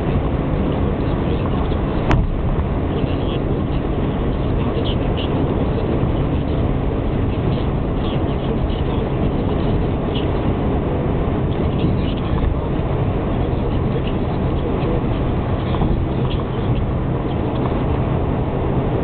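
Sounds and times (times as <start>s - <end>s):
car tyre and engine rumble: 0.0s - 19.0s.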